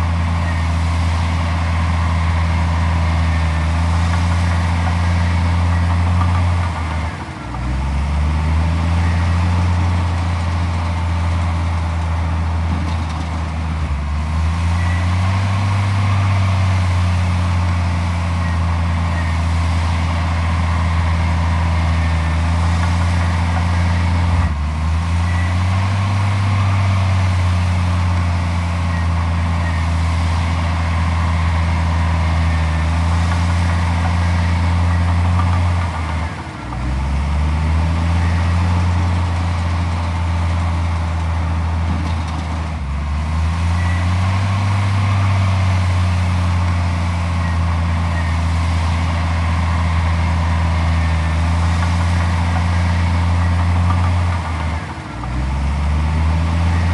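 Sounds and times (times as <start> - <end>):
heavy diesel engine revving: 0.0 - 56.9.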